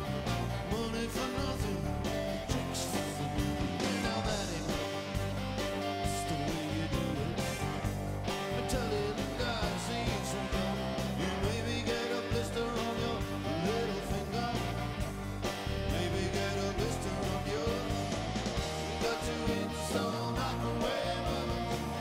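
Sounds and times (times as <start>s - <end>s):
rock song with guitar and singing: 0.0s - 22.0s.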